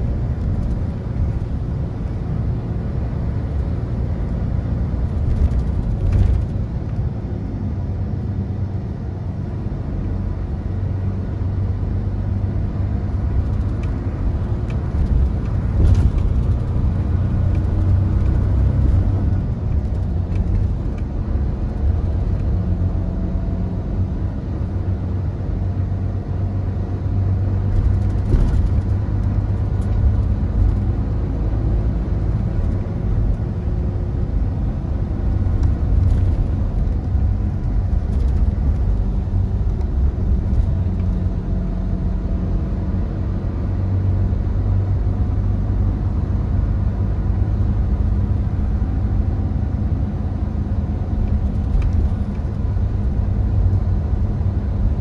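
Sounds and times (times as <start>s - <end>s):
diesel engine hum: 0.0s - 55.0s.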